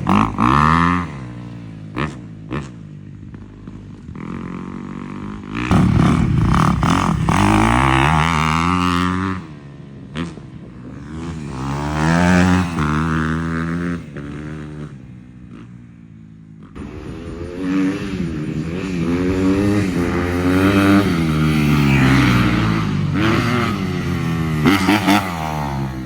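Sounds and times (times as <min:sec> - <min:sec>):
dirt bike engine revving: 0:00.0 - 0:02.8, 0:04.2 - 0:15.8, 0:16.6 - 0:26.0.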